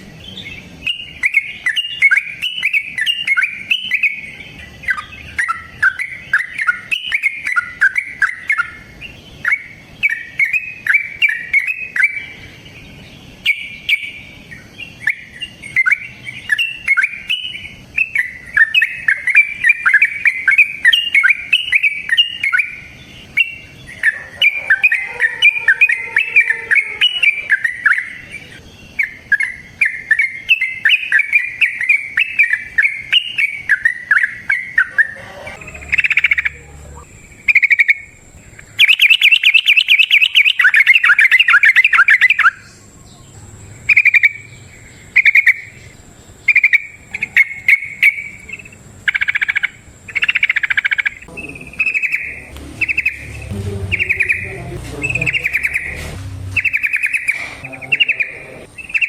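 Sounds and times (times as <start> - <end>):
bird singing chattering notes: 0.0 - 59.0.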